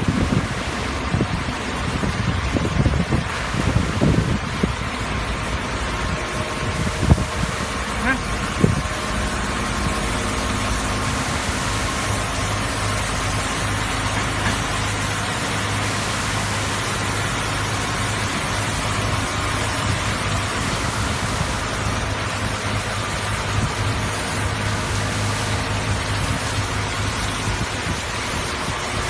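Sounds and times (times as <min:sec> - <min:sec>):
low motor hum: 0:00.0 - 0:29.0
spraying water hiss: 0:00.0 - 0:29.0.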